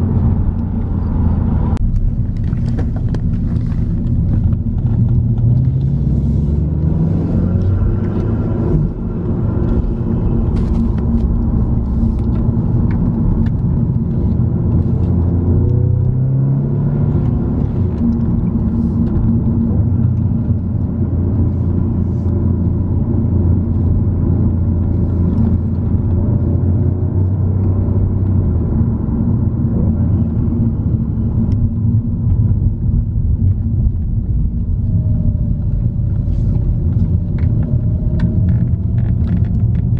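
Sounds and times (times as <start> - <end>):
car engine: 0.0 - 39.9
road rumble: 0.0 - 39.9.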